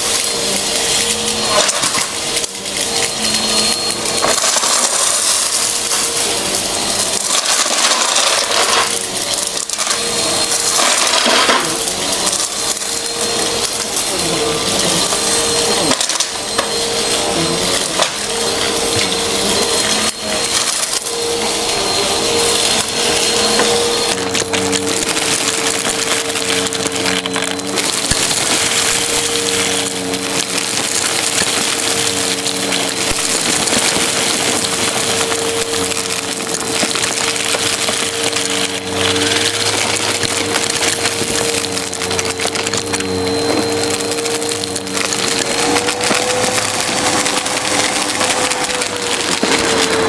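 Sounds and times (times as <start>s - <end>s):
debris crackling through nozzle: 0.0s - 50.0s
handheld vacuum motor whine: 0.0s - 50.0s.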